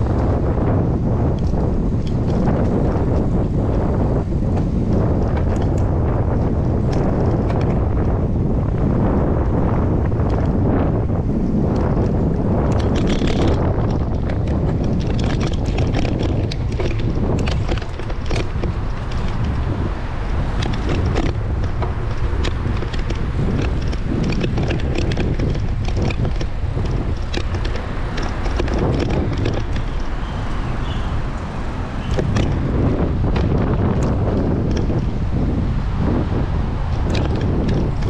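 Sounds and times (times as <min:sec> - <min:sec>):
bicycle clicks and rattles: 0:00.0 - 0:38.0
wind buffeting microphone: 0:00.0 - 0:38.0.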